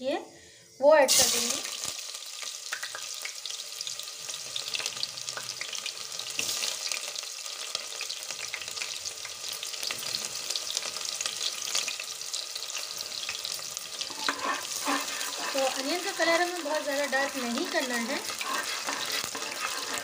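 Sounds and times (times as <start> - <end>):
onions sizzling in hot oil: 0.9 - 20.0.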